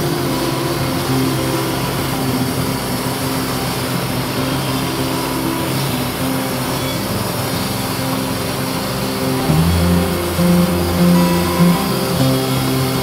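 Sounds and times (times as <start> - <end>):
band sawmill cutting log: 0.0 - 13.0.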